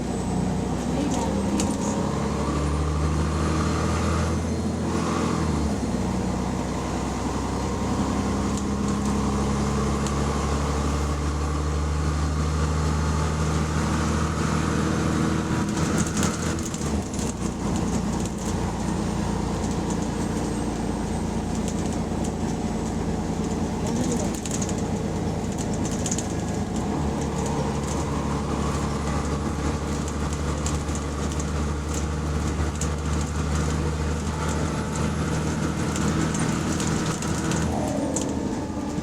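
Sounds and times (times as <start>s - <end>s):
diesel bus engine running: 0.0s - 39.0s.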